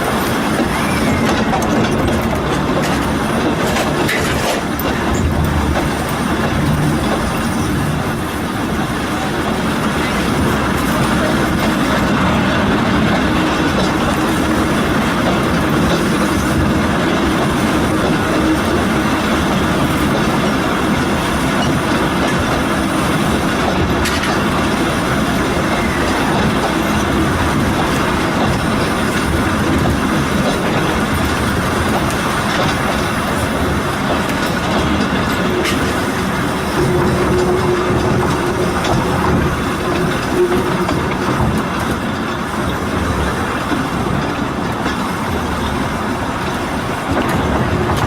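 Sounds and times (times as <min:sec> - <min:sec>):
train wheels on rails: 0:00.0 - 0:48.0.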